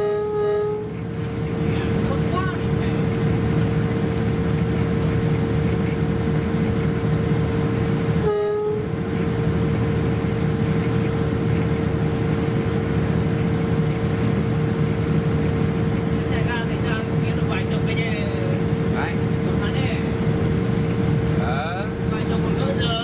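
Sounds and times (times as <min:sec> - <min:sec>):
diesel train running: 0:00.0 - 0:23.0.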